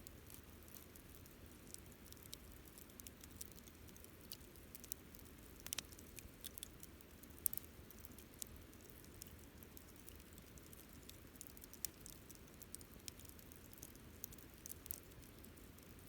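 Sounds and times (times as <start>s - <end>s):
wood fire crackling and snapping: 0.0s - 16.0s.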